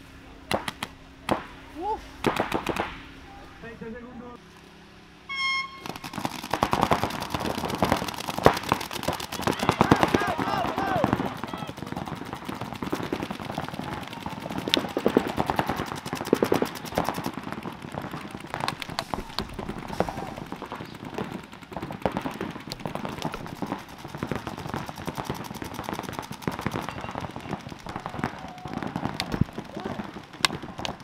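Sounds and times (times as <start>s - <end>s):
paintball markers firing: 0.5s - 1.6s, 2.2s - 3.1s, 5.8s - 31.0s.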